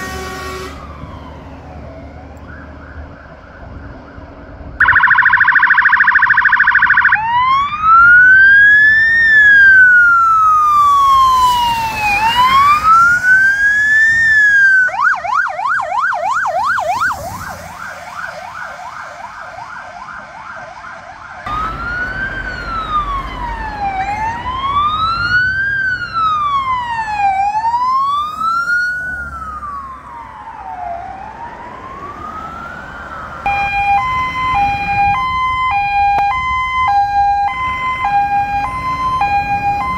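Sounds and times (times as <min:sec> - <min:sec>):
siren alternating fixed tones: 0:00.6 - 0:39.9
siren wailing and yelping: 0:04.8 - 0:39.9.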